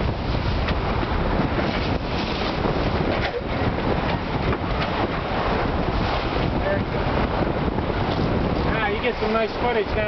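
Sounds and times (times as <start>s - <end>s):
water rushing along boat hull: 0.0s - 10.0s
wind buffeting microphone: 0.0s - 10.0s.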